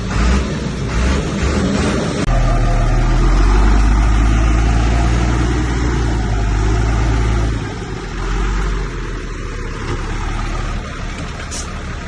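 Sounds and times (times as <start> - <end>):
heavy diesel engine drone: 0.0 - 12.0.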